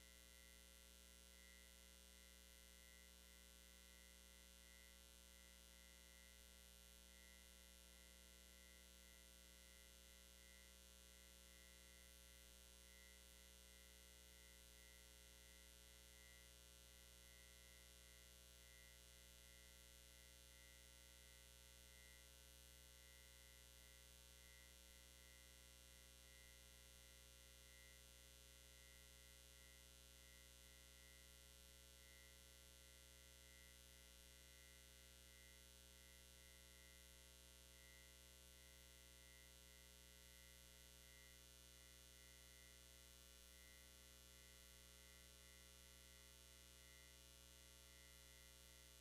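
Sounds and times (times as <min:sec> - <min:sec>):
faint electrical hum: 0:00.0 - 0:49.0.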